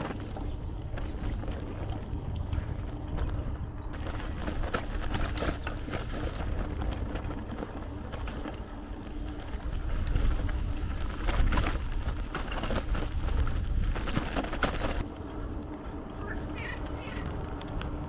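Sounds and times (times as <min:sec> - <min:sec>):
bike rattling over road: 0:00.0 - 0:18.0
wind rumble on microphone: 0:00.0 - 0:18.0.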